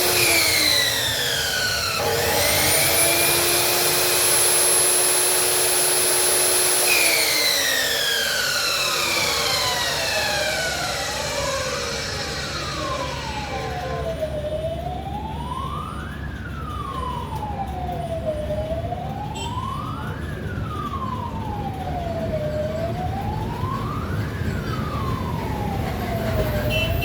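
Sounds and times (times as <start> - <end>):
siren wailing: 0.0 - 27.0.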